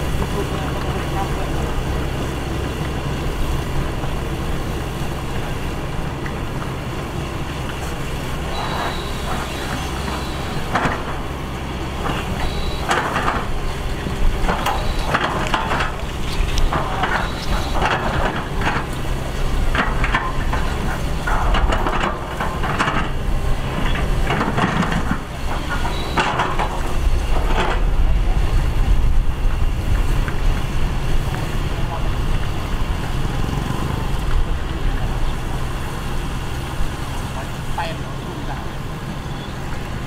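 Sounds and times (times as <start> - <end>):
excavator diesel engine under load: 0.0 - 40.0.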